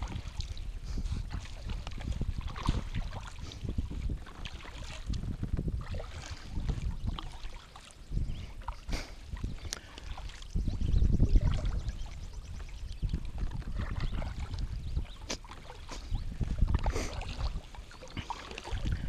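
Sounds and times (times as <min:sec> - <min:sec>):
water lapping against kayak hull: 0:00.0 - 0:19.0
wind gusting over microphone: 0:00.0 - 0:19.0.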